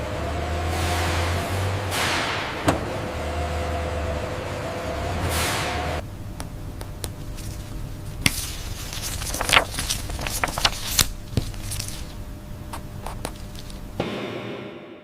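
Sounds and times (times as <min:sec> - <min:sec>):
steady low hum: 0:01.4 - 0:15.0.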